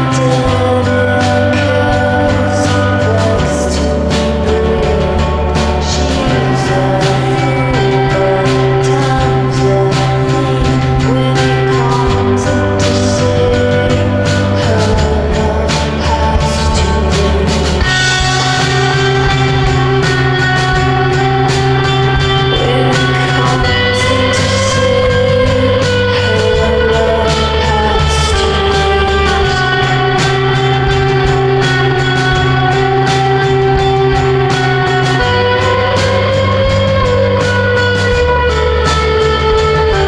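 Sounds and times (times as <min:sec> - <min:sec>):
bass line: 0:00.0 - 0:40.0
rock music with guitar: 0:00.0 - 0:40.0
steady drum beat: 0:00.0 - 0:40.0.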